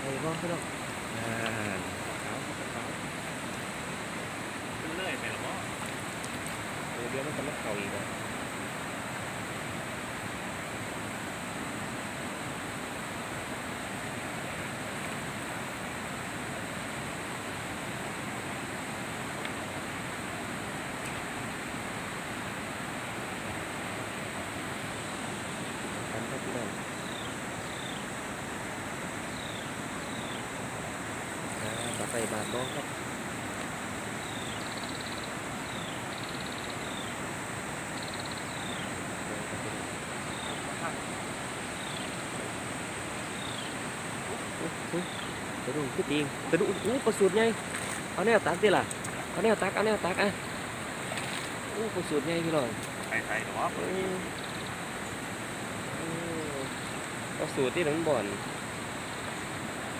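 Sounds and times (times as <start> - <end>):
flowing water rushing: 0.0 - 59.9
wind: 0.0 - 59.9.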